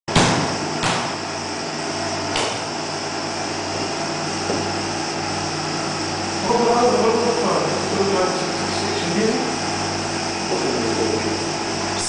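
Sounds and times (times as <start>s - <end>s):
fan humming: 0.1s - 12.0s.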